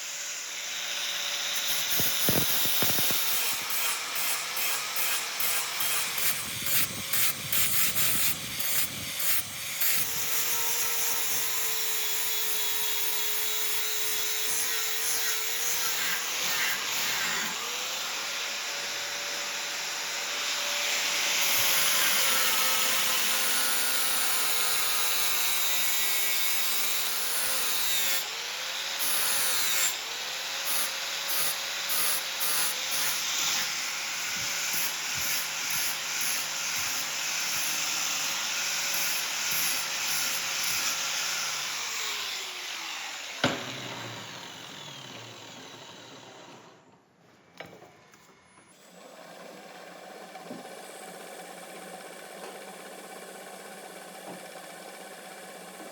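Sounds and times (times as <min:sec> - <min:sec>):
power grinder grinding steel: 0:00.0 - 0:46.8.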